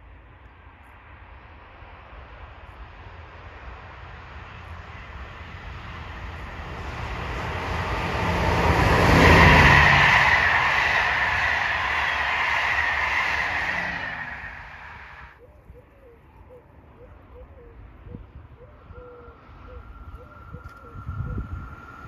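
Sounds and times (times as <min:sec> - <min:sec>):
train passing at speed: 0:00.0 - 0:15.4, 0:18.7 - 0:22.0.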